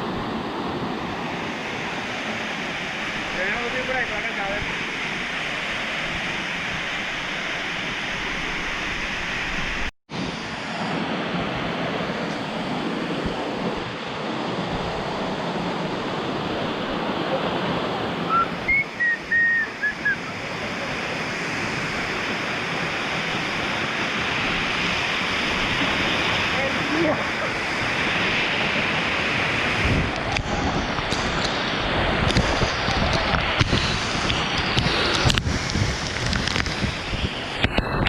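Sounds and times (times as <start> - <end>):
rushing water: 0.0 - 38.0.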